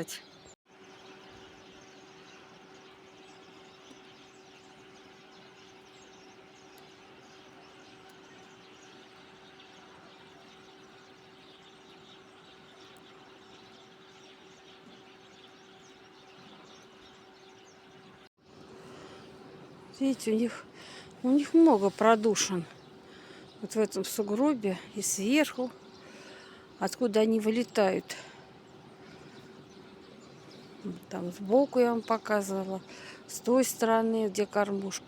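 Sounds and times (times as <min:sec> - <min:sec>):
steady low hum: 0:00.4 - 0:34.0.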